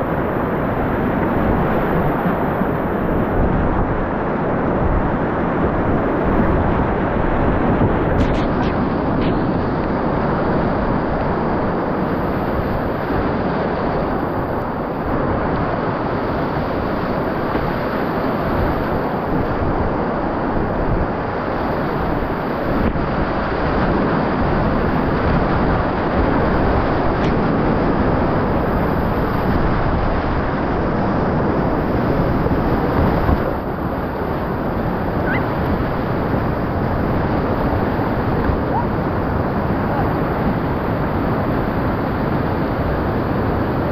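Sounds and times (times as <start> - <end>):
roar of churning rapids: 0.0 - 43.9.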